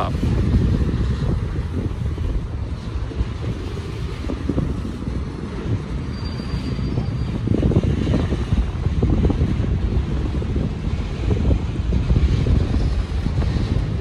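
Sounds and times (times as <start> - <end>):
freight train rumbling on track: 0.0 - 14.0.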